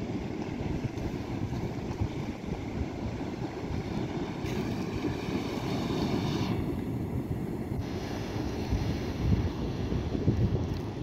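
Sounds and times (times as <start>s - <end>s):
sea surf: 0.0s - 11.0s
wind on microphone: 0.0s - 11.0s.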